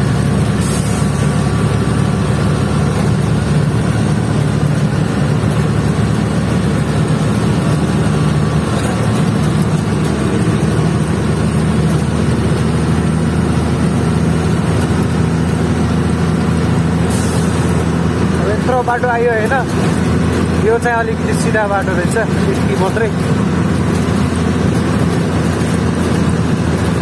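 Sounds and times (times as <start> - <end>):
road noise: 0.0 - 27.0
truck engine running: 0.0 - 27.0.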